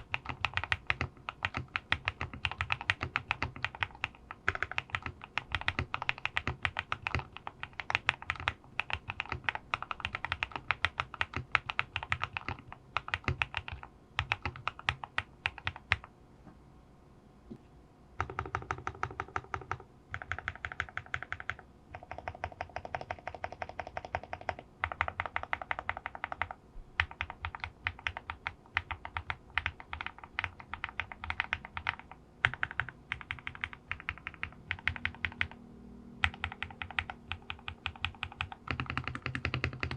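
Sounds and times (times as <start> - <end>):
mechanical keyboard typing: 0.0 - 16.1, 18.2 - 35.6, 36.2 - 39.9.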